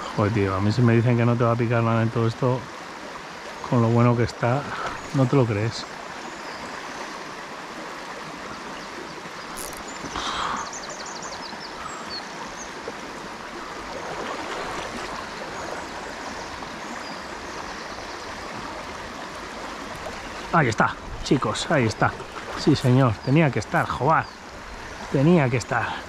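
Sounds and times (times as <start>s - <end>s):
river water rushing: 1.8s - 26.0s.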